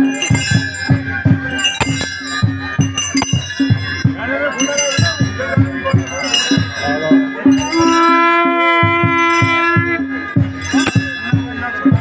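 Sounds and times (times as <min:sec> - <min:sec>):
bells ringing: 0:00.0 - 0:12.0
drums beating quick rhythm: 0:00.0 - 0:12.0.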